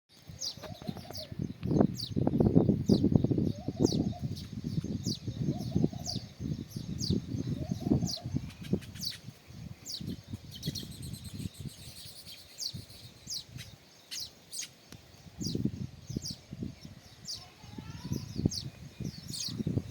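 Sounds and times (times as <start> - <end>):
sparrows chirping: 0.1 - 19.9.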